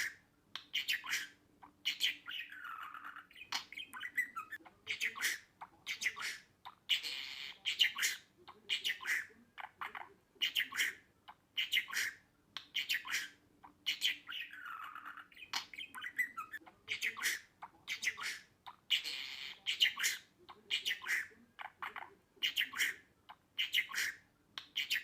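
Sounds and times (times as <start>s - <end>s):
budgerigars chirping: 0.0s - 25.0s.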